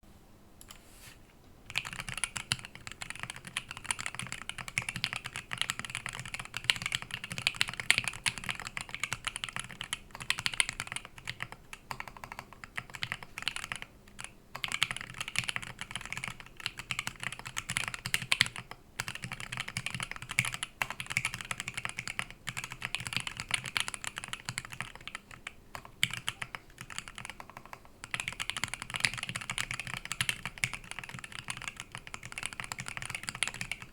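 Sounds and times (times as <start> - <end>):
fast typing on mechanical keyboard: 1.7 - 33.9.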